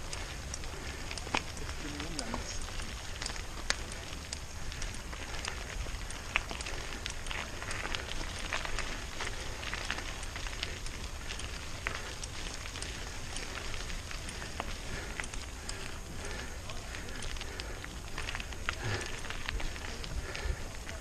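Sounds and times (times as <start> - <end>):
bike tyres rolling on asphalt: 0.0 - 21.0
grit clicks and rattles: 0.0 - 21.0.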